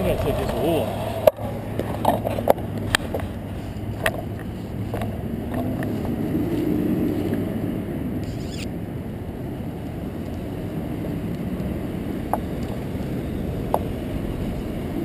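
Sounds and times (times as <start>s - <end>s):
road and wind hum: 0.0s - 15.0s.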